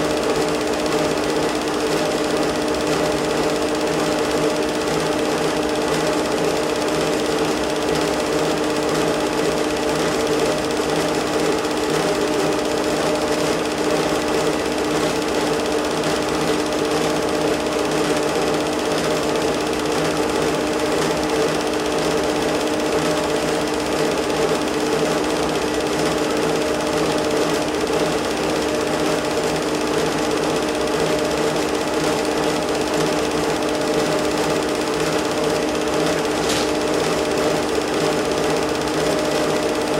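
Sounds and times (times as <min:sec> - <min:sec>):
film projector mechanical chatter: 0:00.0 - 0:39.9.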